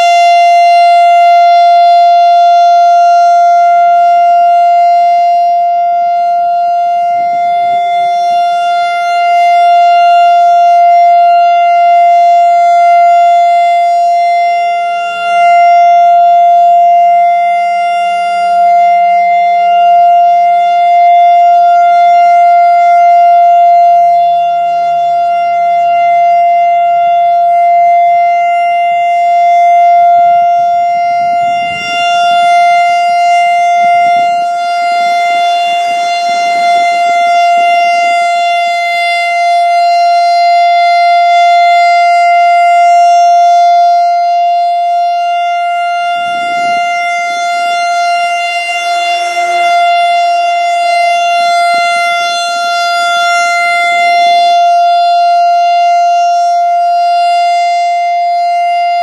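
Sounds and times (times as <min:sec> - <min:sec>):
electronic siren steady tone: 0:00.0 - 0:59.0.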